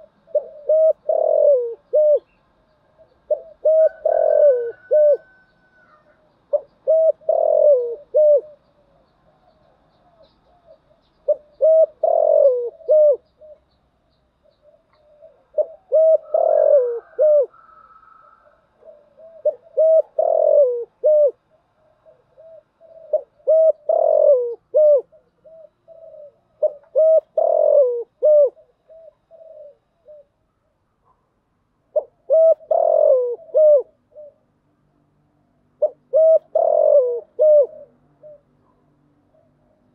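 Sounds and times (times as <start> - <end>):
dove cooing: 0.0 - 13.8, 14.4 - 30.4, 31.9 - 34.5, 35.7 - 39.9.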